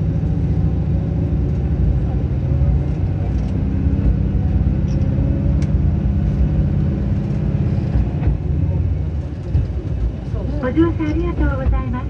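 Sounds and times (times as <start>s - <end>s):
diesel railcar engine running: 0.0s - 12.0s.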